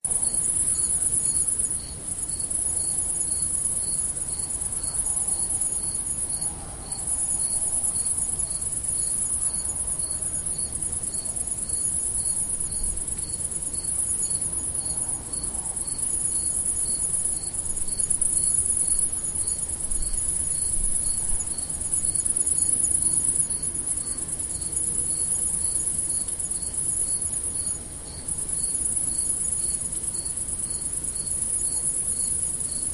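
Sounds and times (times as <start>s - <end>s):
crickets trilling: 0.0s - 32.9s
low insect chirp: 0.0s - 32.9s.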